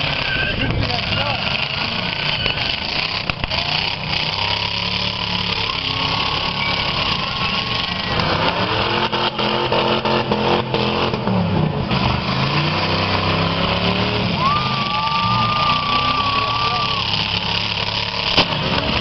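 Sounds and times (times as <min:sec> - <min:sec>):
tyres spinning in burnout: 0:00.0 - 0:19.0
car engine revving hard: 0:00.8 - 0:19.0.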